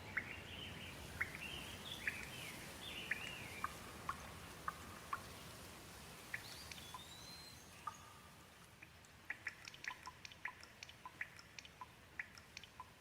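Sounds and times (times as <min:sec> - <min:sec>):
gentle rain: 0:00.0 - 0:13.0.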